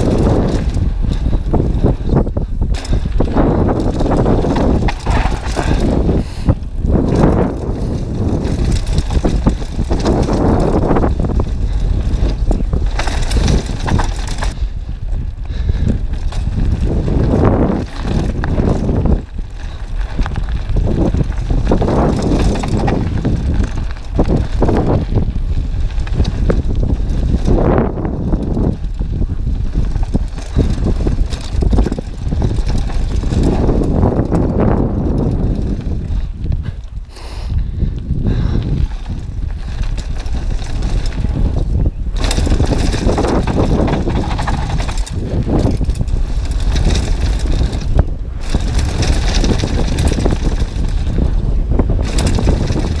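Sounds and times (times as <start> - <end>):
bike rattling over bumps: 0.0 - 53.0
wind on microphone: 0.0 - 53.0
tyres crunching over gravel: 2.6 - 14.6, 16.0 - 36.8, 38.4 - 53.0.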